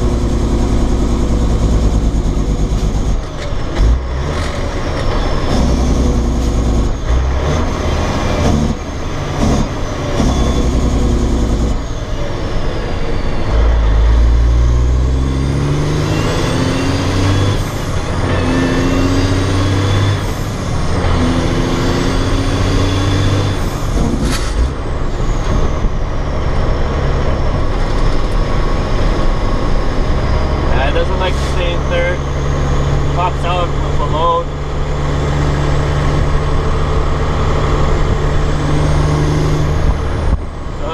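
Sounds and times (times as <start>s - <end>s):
truck diesel engine under load: 0.0s - 40.9s.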